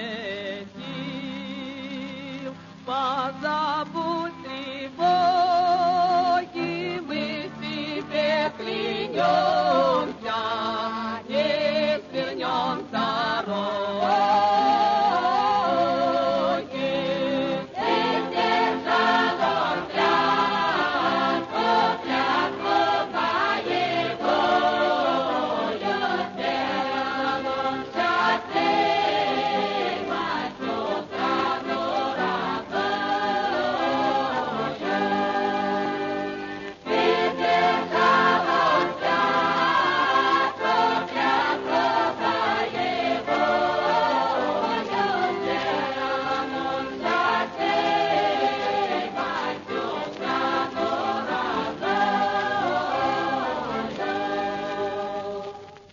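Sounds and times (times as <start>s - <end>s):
choir singing: 4.0s - 55.8s.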